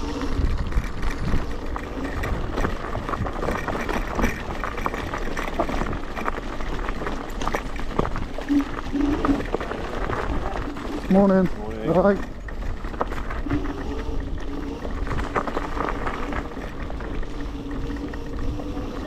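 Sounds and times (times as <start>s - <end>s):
electric scooter rattling: 0.0s - 19.0s
wind buffeting microphone: 0.0s - 19.0s.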